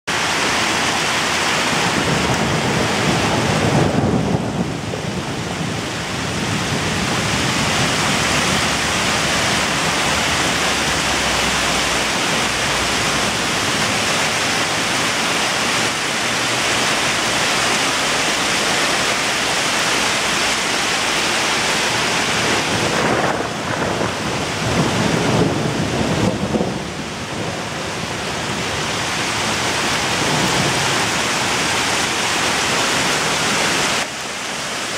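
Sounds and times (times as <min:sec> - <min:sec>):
hail and rain pelting cars: 0:00.1 - 0:34.9
thunder rumbling: 0:00.2 - 0:34.0.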